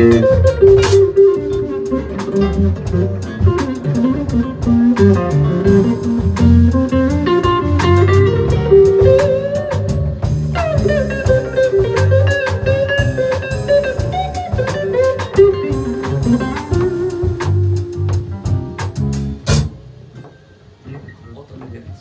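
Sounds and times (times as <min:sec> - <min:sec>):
electric guitar lead: 0:00.0 - 0:19.8
blues band bass and drums: 0:00.0 - 0:22.0.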